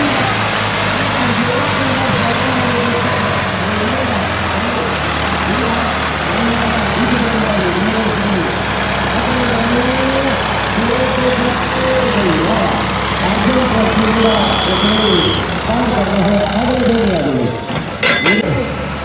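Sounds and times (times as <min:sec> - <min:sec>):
diesel tractor engines running: 0:00.0 - 0:19.0
person's voice: 0:01.0 - 0:17.6.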